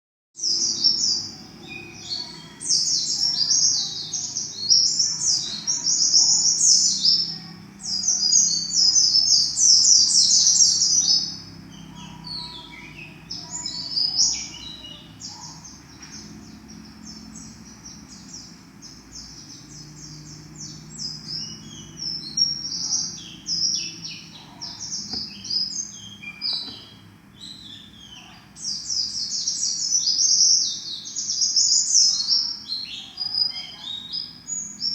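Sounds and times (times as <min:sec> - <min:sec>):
bird twittering song: 0:00.4 - 0:34.9.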